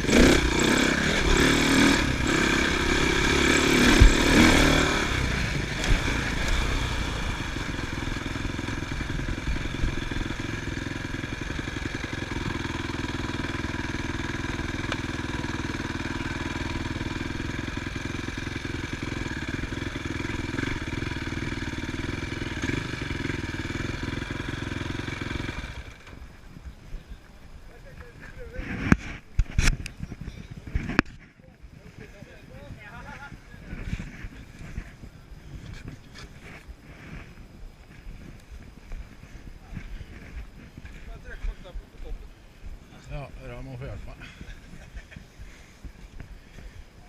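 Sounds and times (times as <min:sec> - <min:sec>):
motocross bike engine running: 0:00.0 - 0:47.0.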